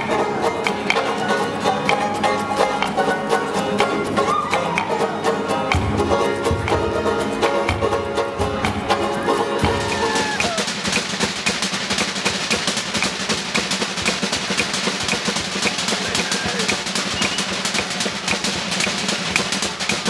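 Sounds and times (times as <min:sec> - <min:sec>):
fast driving drumming: 0:00.0 - 0:20.0.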